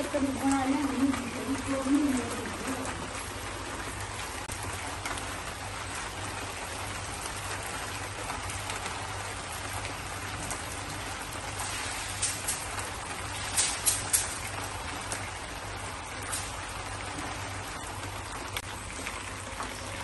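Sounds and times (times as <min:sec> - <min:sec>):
faint water drips: 0:00.0 - 0:20.0
light rain on concrete: 0:00.0 - 0:20.0.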